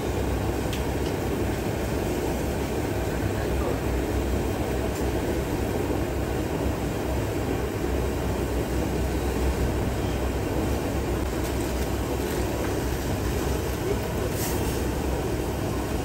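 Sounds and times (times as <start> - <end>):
gas burner rushing: 0.0 - 16.0.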